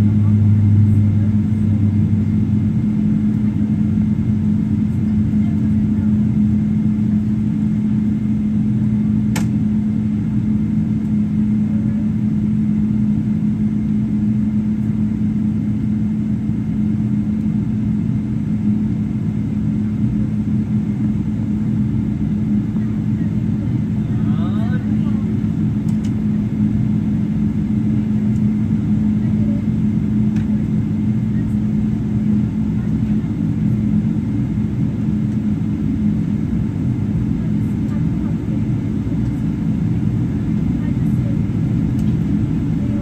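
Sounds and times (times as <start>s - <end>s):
jet engine cabin drone: 0.0s - 43.0s.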